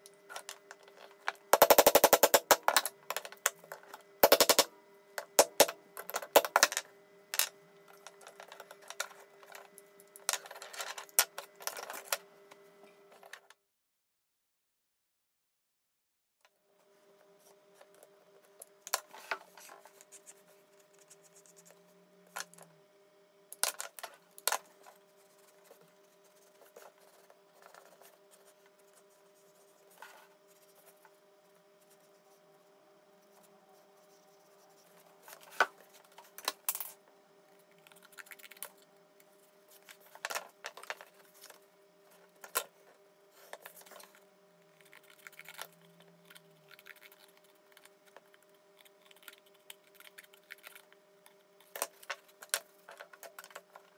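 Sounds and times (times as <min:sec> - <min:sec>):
faint two-tone hum: 0:00.0 - 0:13.6, 0:16.4 - 0:53.9.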